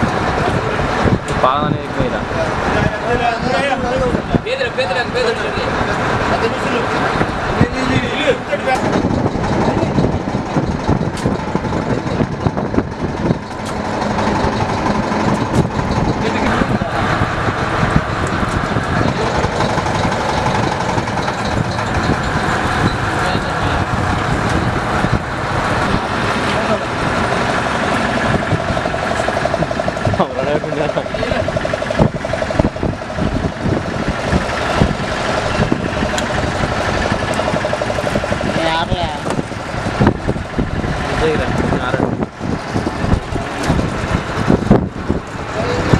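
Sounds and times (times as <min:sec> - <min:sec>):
boat engine running: 0:00.0 - 0:45.9
gear clicking and knocking: 0:08.6 - 0:45.9.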